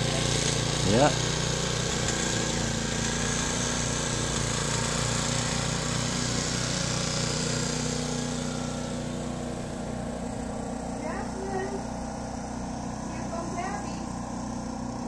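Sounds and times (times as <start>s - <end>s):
snowblower engine running: 0.0s - 15.0s.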